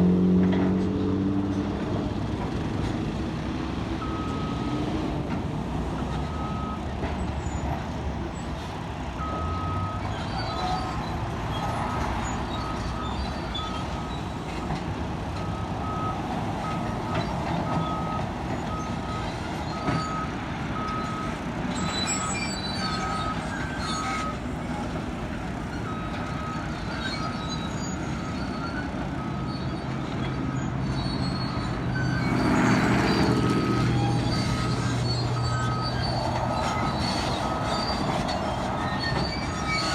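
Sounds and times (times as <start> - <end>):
diesel construction machinery running: 0.0 - 39.9.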